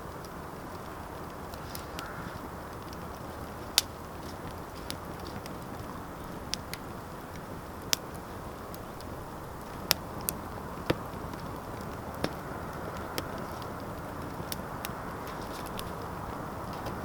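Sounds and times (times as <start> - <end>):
sharp pops of fire: 0.0 - 17.0
wood fire crackling: 0.0 - 17.0.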